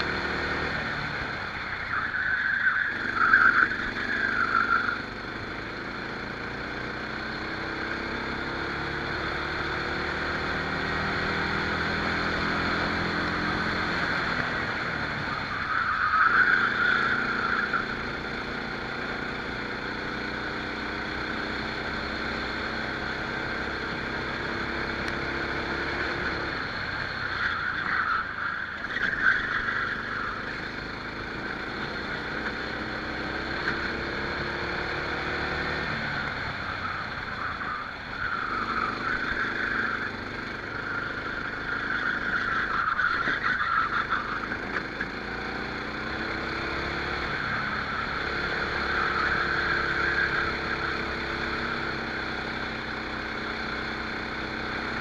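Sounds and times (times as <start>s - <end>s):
kart engine running flat out: 0.0s - 55.0s.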